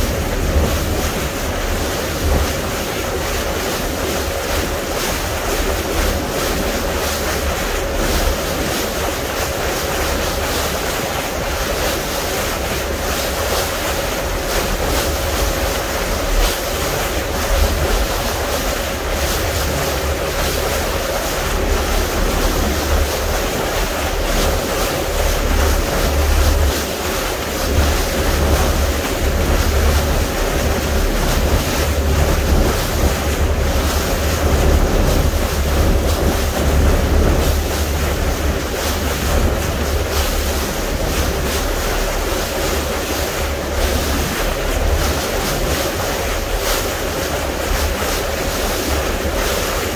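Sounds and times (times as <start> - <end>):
water rushing along hull: 0.0 - 49.9
wind rumbling on microphone: 0.0 - 49.9.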